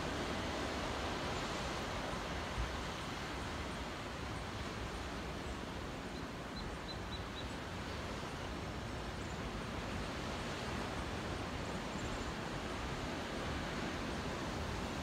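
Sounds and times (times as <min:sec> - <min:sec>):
distant ocean surf: 0:00.0 - 0:15.0
wind: 0:00.0 - 0:15.0.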